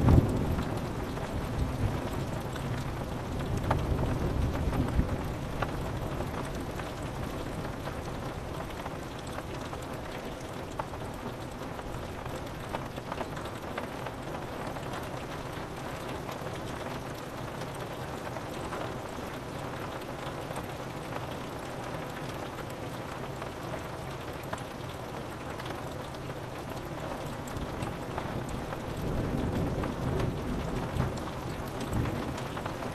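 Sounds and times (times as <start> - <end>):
rain pattering on a window: 0.0 - 32.9.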